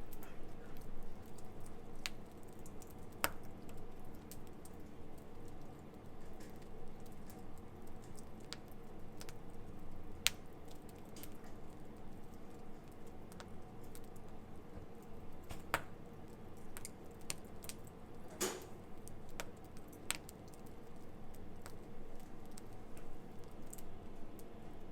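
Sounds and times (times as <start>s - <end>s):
low noise of burning fire: 0.0s - 24.9s
campfire crackling and popping: 0.1s - 24.6s.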